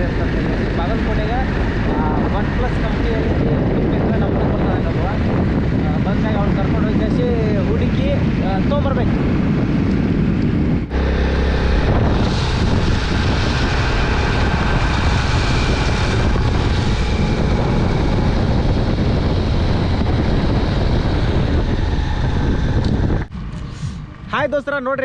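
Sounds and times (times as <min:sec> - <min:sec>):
wind buffeting microphone: 0:00.0 - 0:24.4
vehicle drone: 0:00.0 - 0:25.0.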